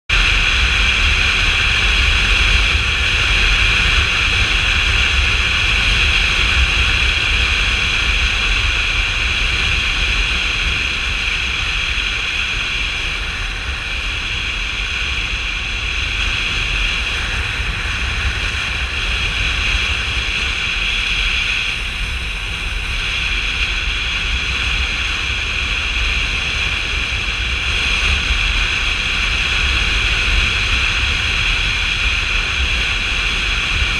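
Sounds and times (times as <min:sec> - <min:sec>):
motorcycle engine drone: 0:00.1 - 0:33.9
wind rushing over camera: 0:00.1 - 0:33.9.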